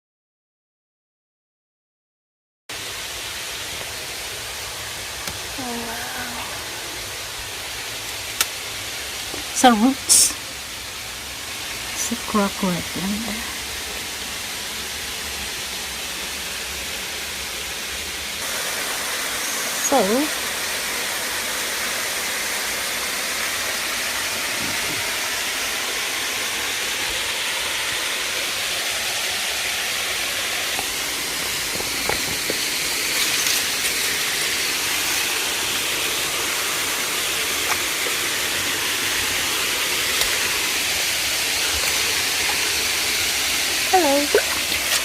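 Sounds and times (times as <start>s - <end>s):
waterfall rushing: 2.8s - 45.0s.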